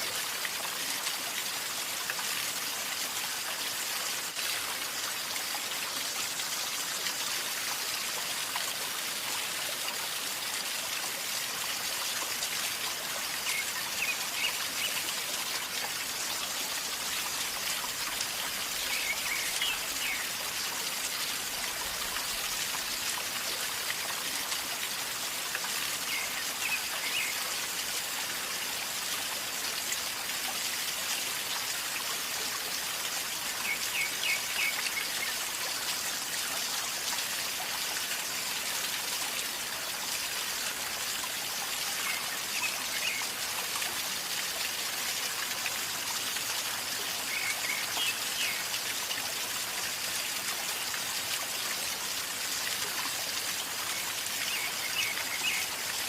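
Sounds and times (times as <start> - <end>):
river water gurgling over stones: 0.0 - 56.0.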